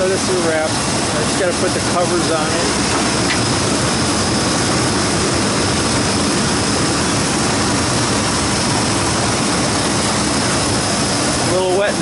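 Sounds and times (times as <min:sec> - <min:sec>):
condensing unit whoosh: 0:00.0 - 0:12.0.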